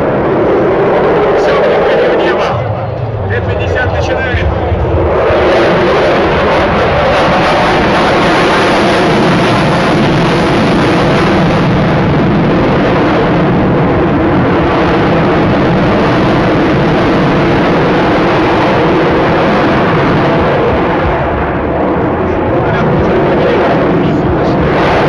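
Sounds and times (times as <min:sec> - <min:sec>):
jet fighter passing overhead: 0:00.0 - 0:25.0.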